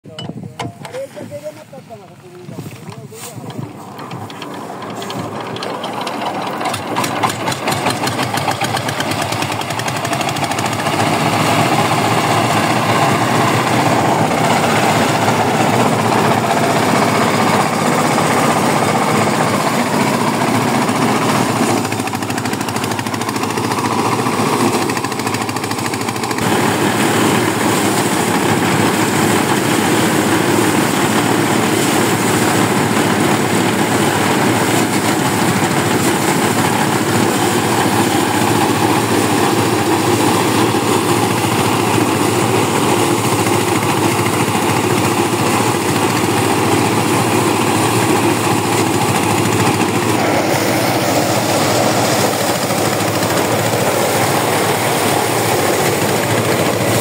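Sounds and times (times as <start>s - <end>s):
diesel engine running: 0.0s - 57.0s
thresher drum clattering: 1.9s - 57.0s.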